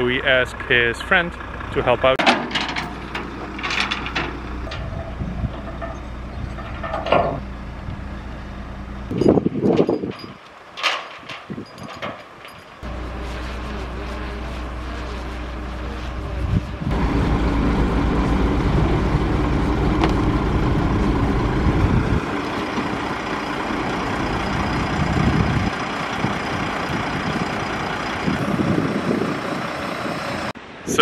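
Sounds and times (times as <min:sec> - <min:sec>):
truck diesel engine running: 0:00.0 - 0:10.8, 0:12.7 - 0:30.7.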